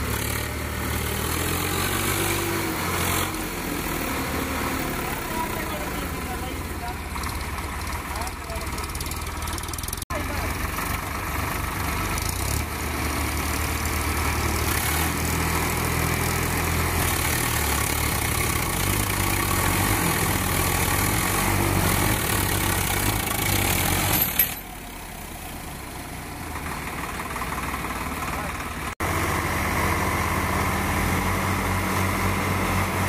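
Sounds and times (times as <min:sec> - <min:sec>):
diesel tractor engines under load: 0:00.0 - 0:33.0.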